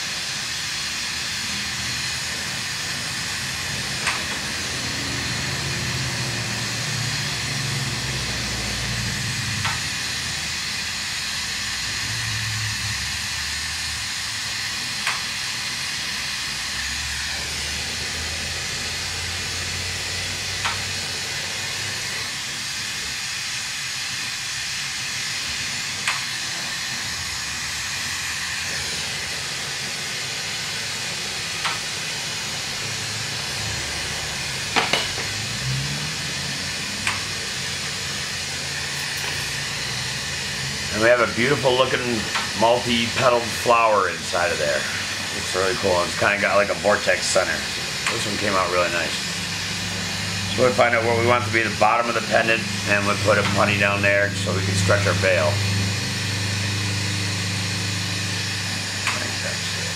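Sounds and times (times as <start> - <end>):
torch hissing: 0.0 - 59.9.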